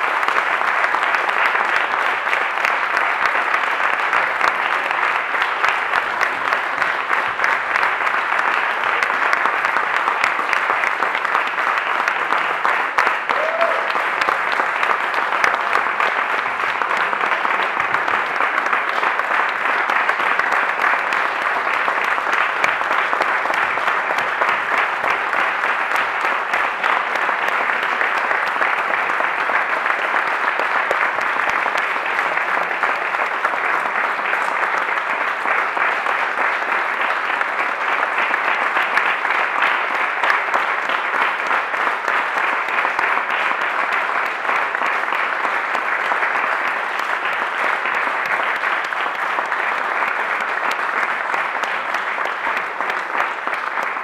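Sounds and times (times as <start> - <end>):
audience applause: 0.0 - 54.0.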